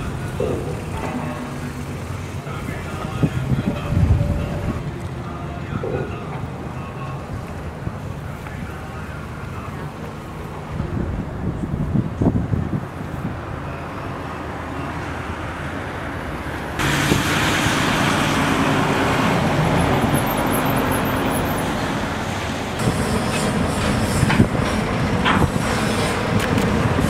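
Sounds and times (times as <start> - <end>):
churned water: 0.0 - 27.0.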